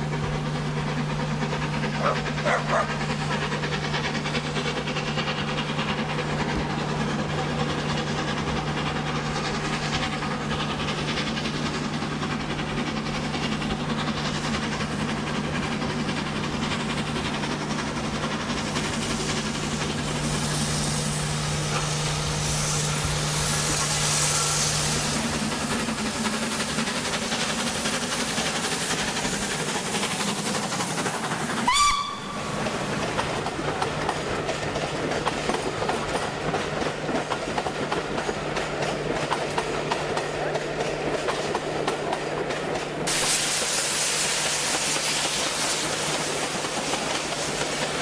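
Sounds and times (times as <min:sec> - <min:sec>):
coaches rattling over rail joints: 0:00.0 - 0:43.7
steam locomotive exhaust: 0:00.0 - 0:48.0.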